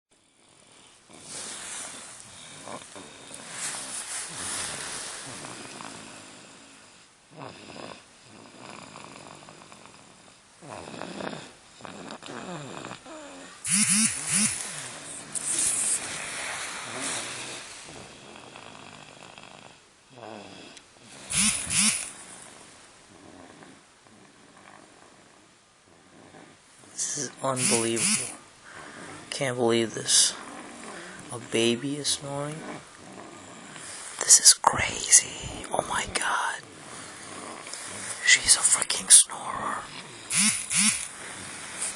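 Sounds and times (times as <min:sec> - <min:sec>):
baby snoring: 0:00.2 - 0:41.9.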